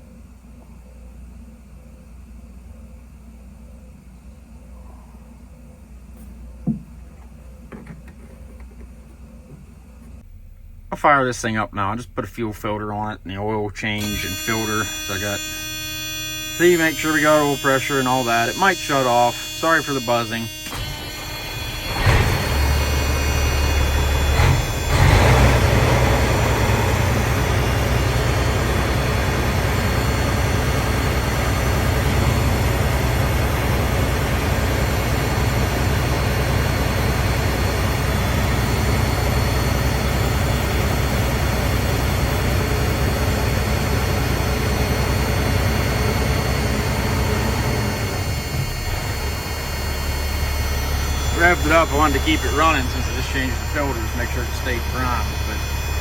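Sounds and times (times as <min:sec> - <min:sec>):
diesel truck engine running: 0:10.2 - 0:56.0.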